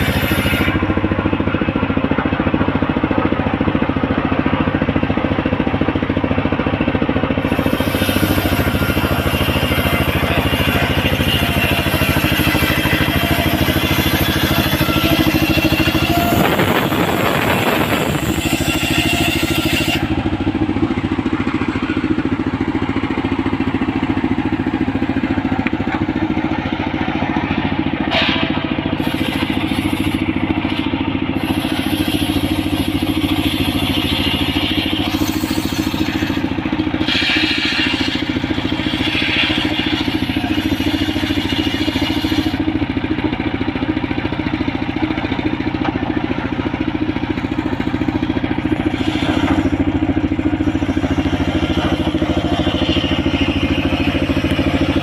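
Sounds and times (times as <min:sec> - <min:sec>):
circular sawmill running: 0:00.0 - 0:55.0
saw blade cutting wood: 0:00.0 - 0:55.0.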